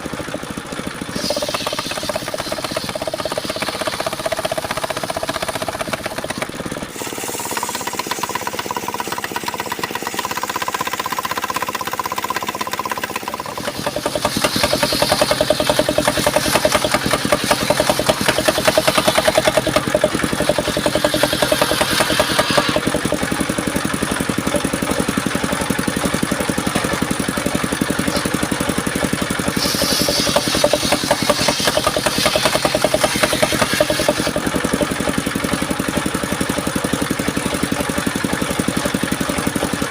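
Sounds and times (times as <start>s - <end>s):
saw blade cutting wood: 0.0s - 39.9s
sawmill engine whine: 0.0s - 39.9s.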